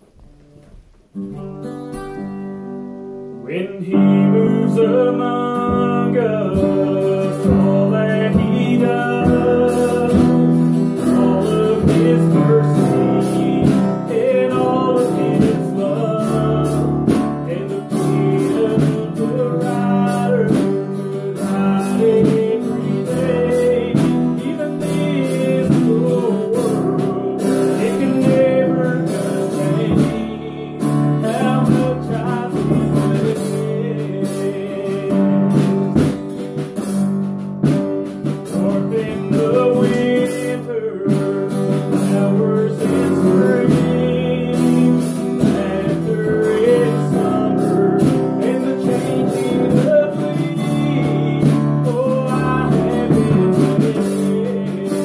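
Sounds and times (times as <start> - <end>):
band playing gospel song: 3.4 - 55.0.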